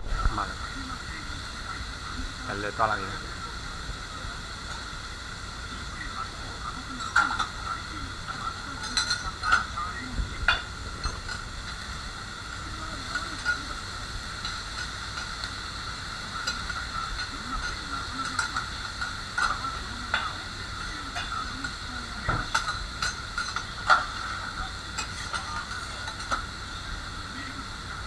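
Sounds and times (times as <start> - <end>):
food sizzling on griddle: 0.0 - 28.0.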